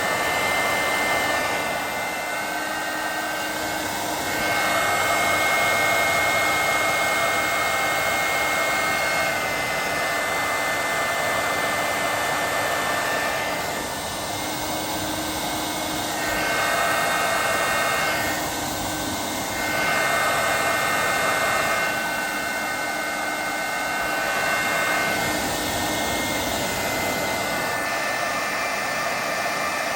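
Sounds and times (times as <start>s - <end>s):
hair dryer blowing: 0.0s - 29.9s.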